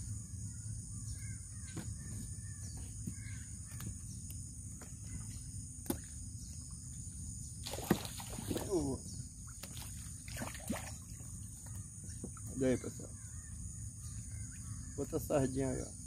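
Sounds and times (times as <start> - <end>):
faint chirps: 0.0 - 16.0
high insect drone: 0.0 - 16.0.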